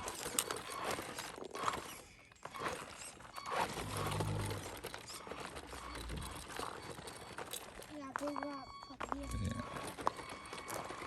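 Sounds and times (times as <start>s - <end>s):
crunching over rocky ground: 0.0s - 11.0s.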